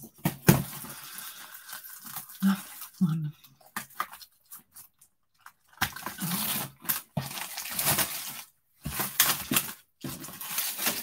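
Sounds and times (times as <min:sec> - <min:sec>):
cellophane crinkling and tearing: 0:00.1 - 0:03.0, 0:03.6 - 0:11.0.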